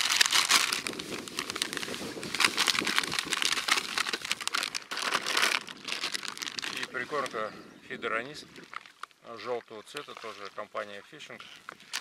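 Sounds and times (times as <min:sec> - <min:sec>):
plastic bag crinkling: 0:00.0 - 0:07.4, 0:08.5 - 0:10.7, 0:11.4 - 0:12.0.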